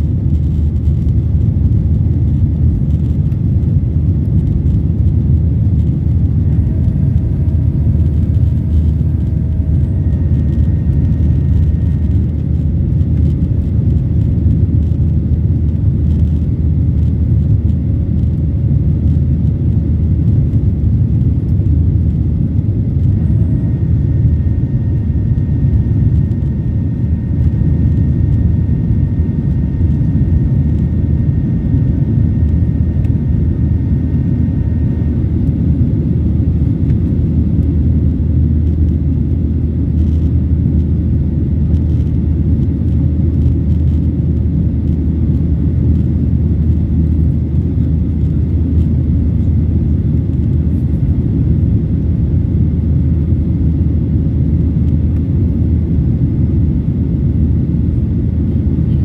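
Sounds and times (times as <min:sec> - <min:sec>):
faint high whine: 0:00.0 - 0:59.0
jet engine cabin rumble: 0:00.0 - 0:59.0.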